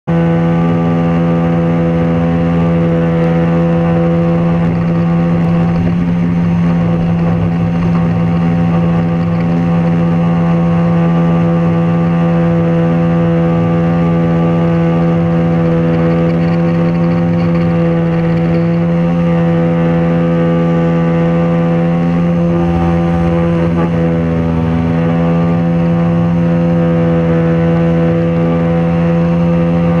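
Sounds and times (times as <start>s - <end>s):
outboard engine running: 0.0s - 30.0s.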